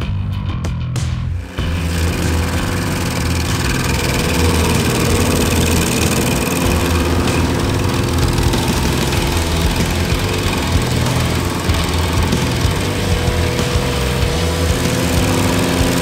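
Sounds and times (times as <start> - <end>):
stump grinder droning: 1.4 - 16.0.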